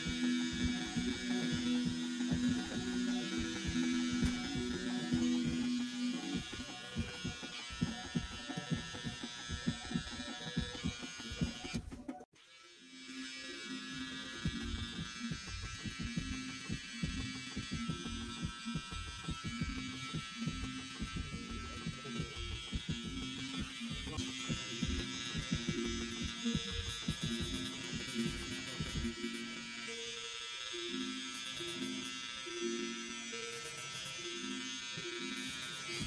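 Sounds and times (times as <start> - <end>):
hair trimmer buzzing: 0.0 - 36.0.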